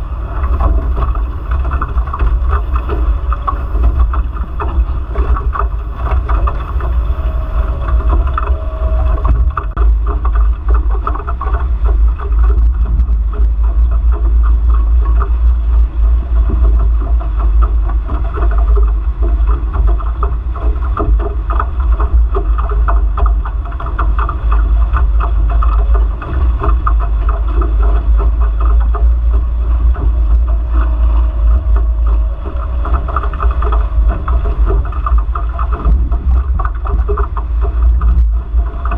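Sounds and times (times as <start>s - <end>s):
faint steady whine: 0.0s - 38.9s
water rushing along hulls: 0.0s - 38.9s
wind buffeting microphone: 0.0s - 38.9s.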